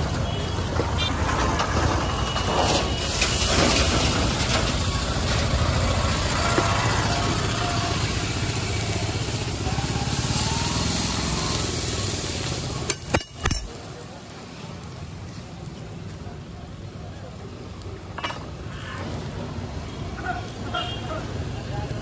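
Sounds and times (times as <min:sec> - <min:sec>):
water sizzling on hot griddle: 0:01.7 - 0:22.0.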